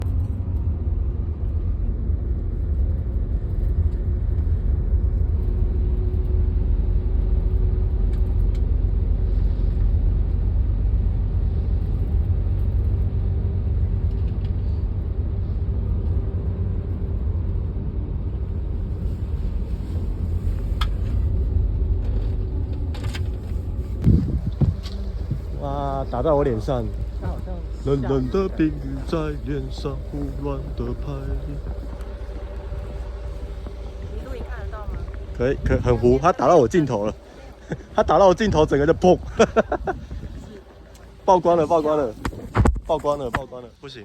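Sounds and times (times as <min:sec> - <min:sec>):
wind buffeting microphone: 0:00.0 - 0:43.5.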